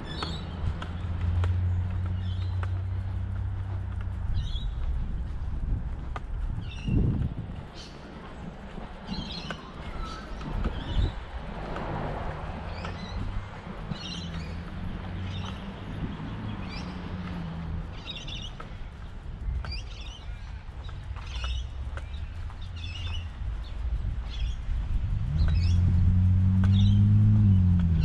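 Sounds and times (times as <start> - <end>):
low engine hum: 0.0 - 28.0
small birds chirping: 0.0 - 28.0.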